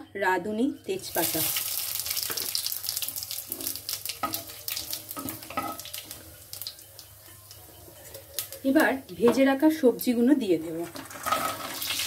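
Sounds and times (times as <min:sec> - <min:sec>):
spices sizzling in hot oil: 0:00.9 - 0:12.0.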